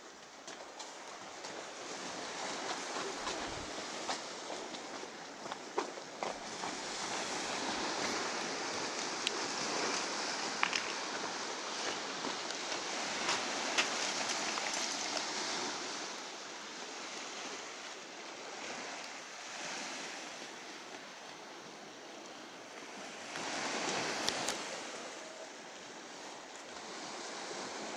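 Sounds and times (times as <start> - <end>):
waves washing onto pebbles: 0.1 - 27.9.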